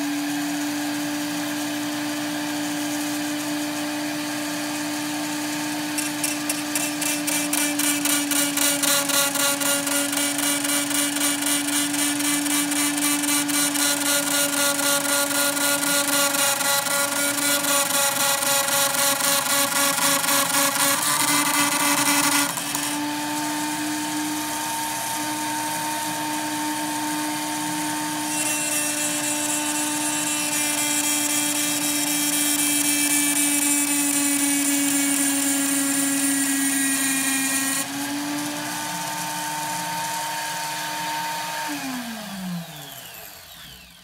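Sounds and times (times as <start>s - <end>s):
cutter grinding workpiece: 0.0s - 44.0s
rotary tool high whine: 0.0s - 44.0s.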